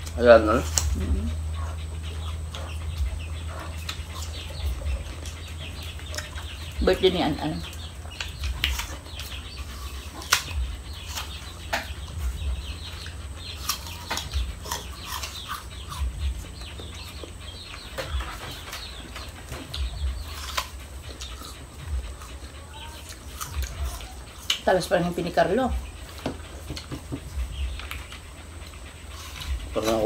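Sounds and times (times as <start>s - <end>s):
low rumble: 0.0s - 26.6s
people chewing food: 0.0s - 30.0s.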